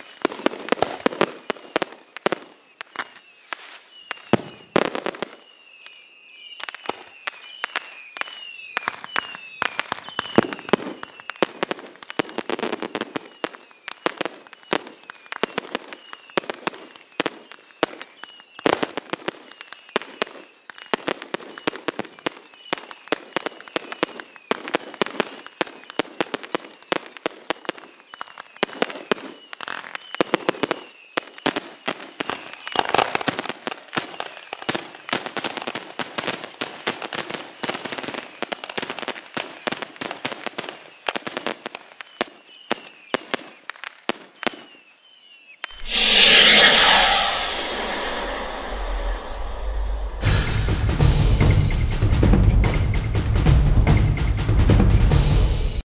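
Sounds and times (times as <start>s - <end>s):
fireworks bangs and crackles: 0.0s - 47.2s.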